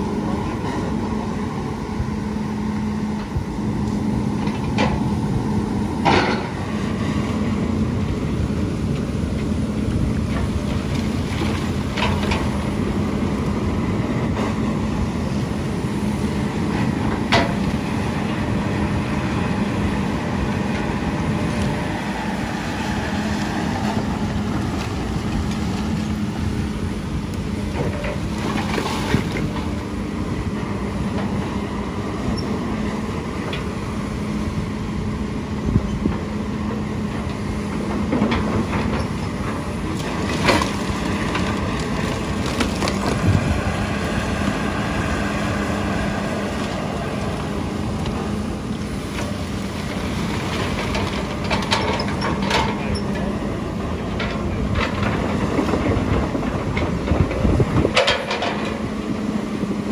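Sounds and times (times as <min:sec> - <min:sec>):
diesel machinery humming: 0:00.0 - 0:59.9.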